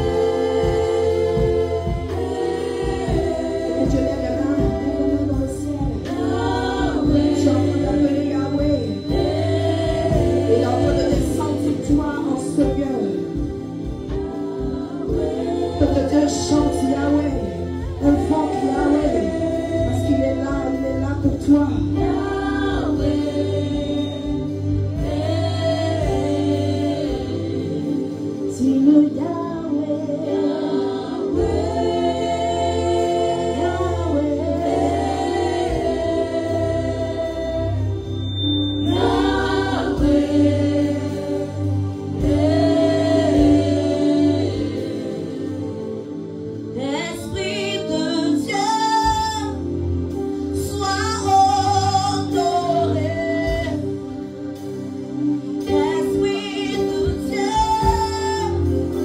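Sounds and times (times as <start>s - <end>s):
backing chords and bass: 0.0s - 59.0s
women singing into microphones: 0.0s - 59.0s.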